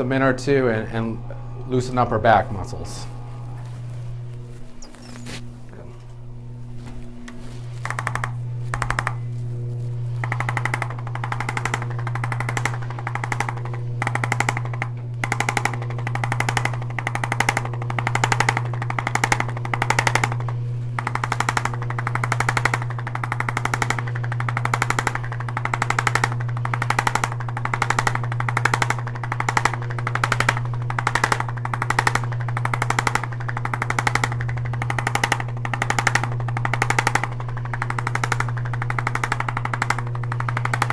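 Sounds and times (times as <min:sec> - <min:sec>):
massager motor hum with tapping: 0:00.0 - 0:40.9.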